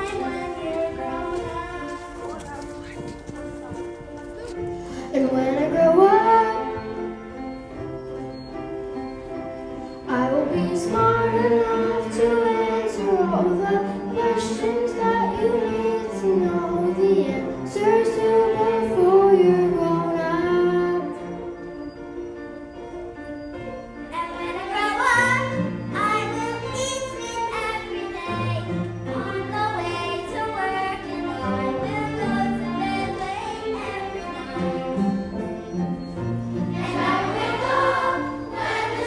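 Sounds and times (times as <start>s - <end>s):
instrumental accompaniment: 0.0s - 39.0s.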